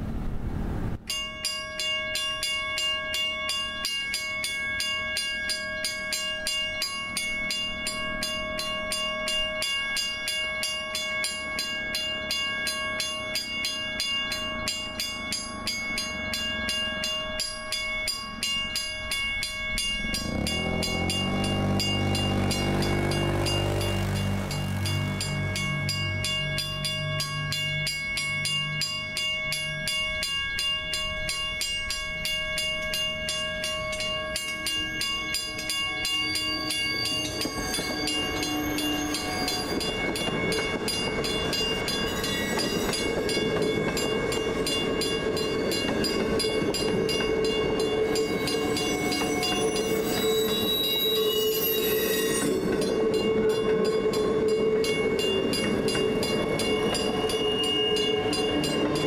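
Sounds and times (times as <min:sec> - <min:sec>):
electric train running on track: 0:00.0 - 0:59.0.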